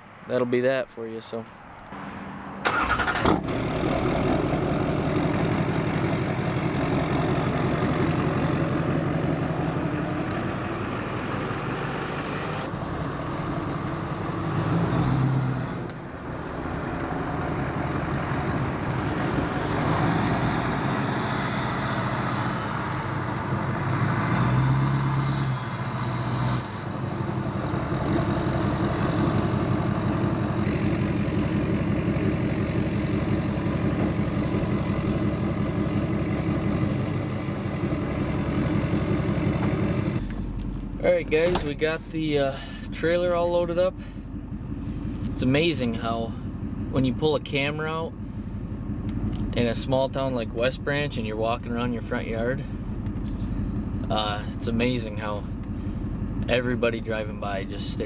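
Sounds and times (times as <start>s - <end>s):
truck engine starting and idling: 1.7s - 58.0s.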